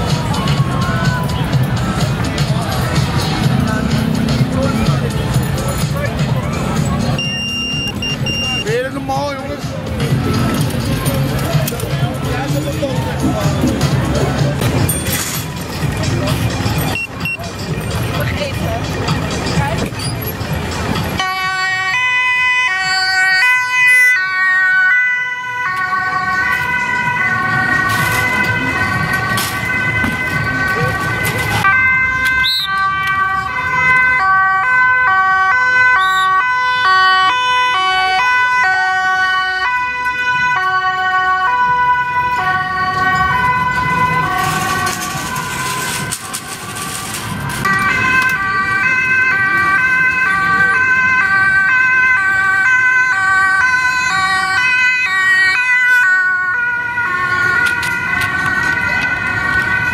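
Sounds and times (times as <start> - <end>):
two-tone emergency sirens: 0.0 - 18.2, 18.8 - 59.9.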